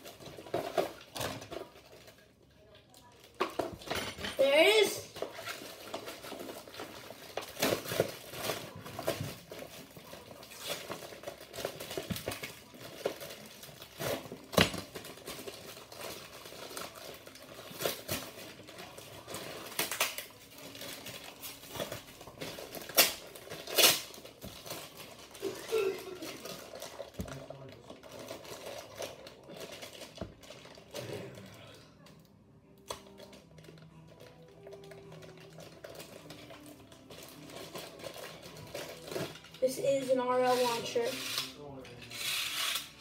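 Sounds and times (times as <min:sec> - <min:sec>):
plastic packaging crinkling: 0:05.1 - 0:31.0, 0:33.0 - 0:43.0.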